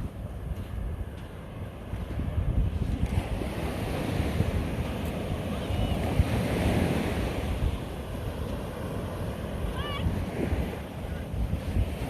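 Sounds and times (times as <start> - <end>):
ocean surf washing on shore: 0.0 - 12.0
wind buffeting microphone: 0.0 - 12.0.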